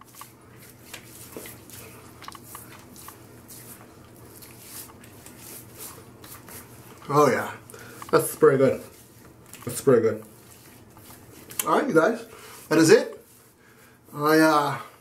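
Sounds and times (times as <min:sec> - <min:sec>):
hands rubbing wet skin: 0:00.0 - 0:13.7.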